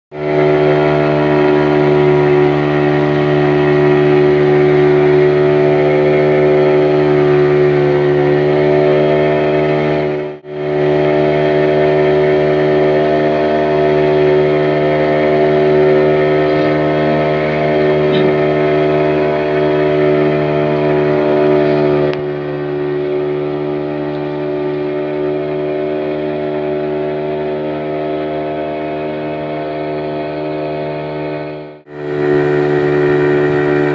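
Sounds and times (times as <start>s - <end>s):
motorboat engine droning: 0.1s - 33.9s.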